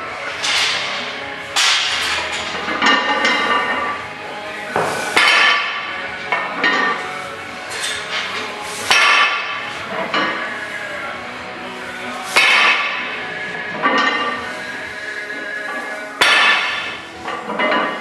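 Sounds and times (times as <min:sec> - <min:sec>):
metal weight plates clanking: 0:00.3 - 0:10.7, 0:12.3 - 0:18.0.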